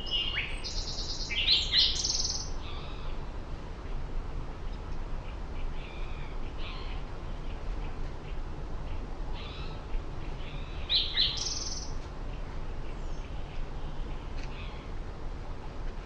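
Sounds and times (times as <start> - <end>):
birds chirping: 0.0 - 3.3, 4.7 - 15.0
low background rumble: 0.0 - 16.0.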